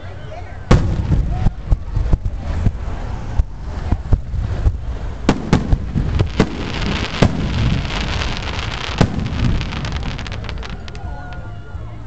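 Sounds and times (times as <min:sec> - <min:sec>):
firework booms: 0:00.7 - 0:11.1
firework crackling: 0:00.7 - 0:11.5.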